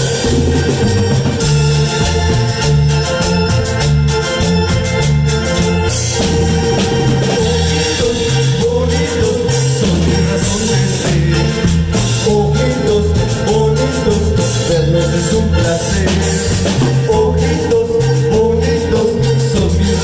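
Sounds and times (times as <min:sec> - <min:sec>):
cumbia band playing: 0:00.0 - 0:20.0.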